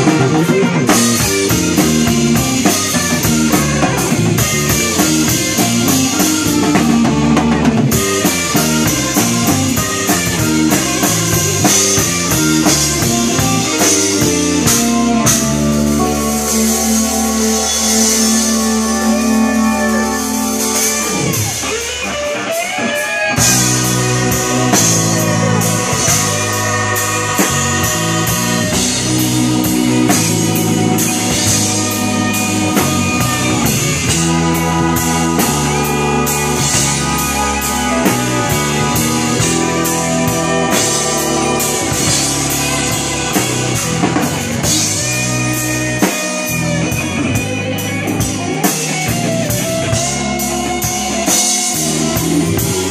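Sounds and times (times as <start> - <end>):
blues-rock band playing: 0.0 - 52.9.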